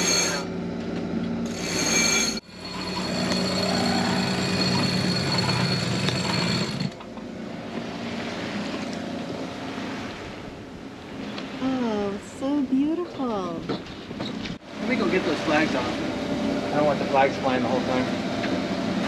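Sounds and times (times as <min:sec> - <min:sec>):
winch motor whine with rattle: 0:00.0 - 0:11.6, 0:13.9 - 0:19.0
wind: 0:00.0 - 0:19.0
water noise: 0:01.5 - 0:19.0.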